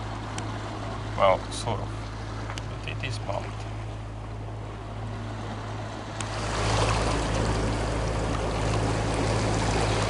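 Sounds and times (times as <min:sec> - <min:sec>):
low hum: 0:00.0 - 0:10.0
water rushing along hulls: 0:00.0 - 0:10.0.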